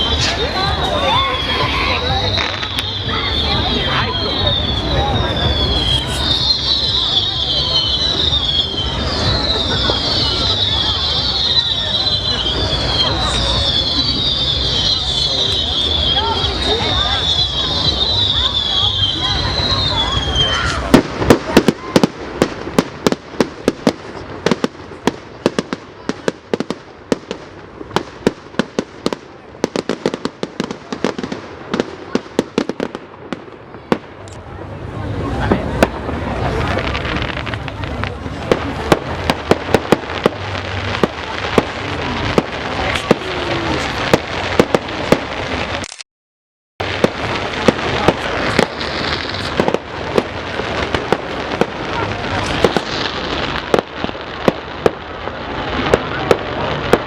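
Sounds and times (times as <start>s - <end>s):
fireworks bangs and cracks: 0.0s - 45.9s, 46.8s - 57.0s
crackling rumble: 1.8s - 46.0s, 46.8s - 57.0s.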